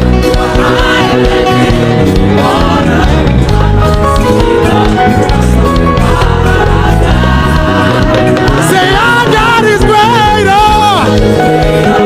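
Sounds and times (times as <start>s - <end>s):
gospel band music: 0.0s - 12.0s.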